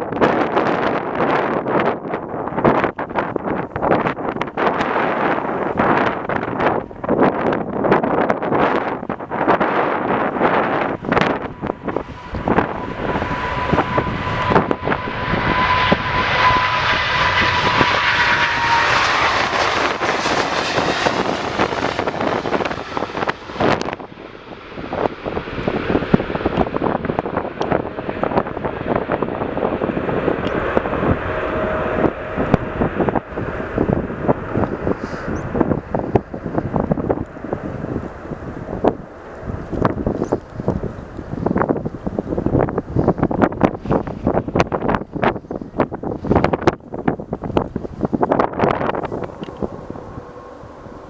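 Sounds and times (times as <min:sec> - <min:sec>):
jet airliner engines passing: 0:00.0 - 0:51.0
wind buffeting microphone: 0:00.0 - 0:51.0.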